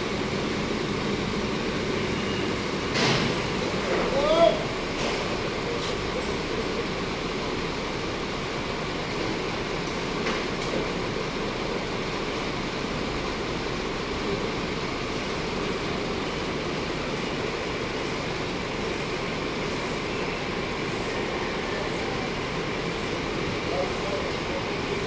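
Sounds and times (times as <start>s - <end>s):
rumble of vehicles in motion: 0.0s - 25.0s.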